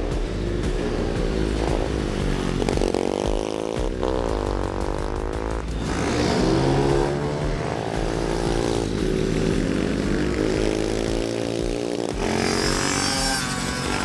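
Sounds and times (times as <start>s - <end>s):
motorcycle engine revving past: 0.1s - 14.0s.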